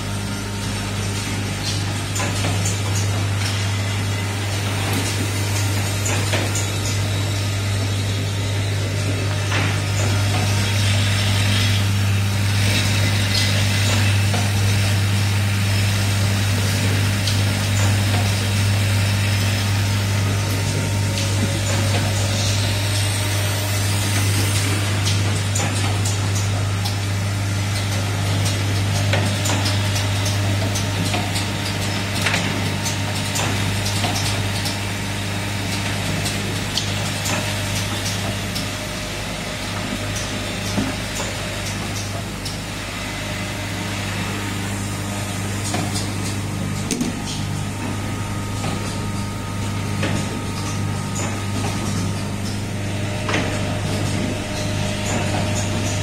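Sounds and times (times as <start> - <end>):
machine low hum: 0.0 - 56.0
mechanism clicks and clacks: 0.6 - 56.0.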